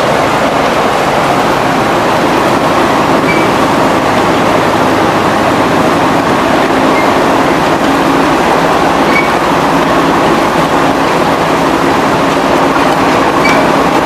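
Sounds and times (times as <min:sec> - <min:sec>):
mill machinery running: 0:00.0 - 0:14.0.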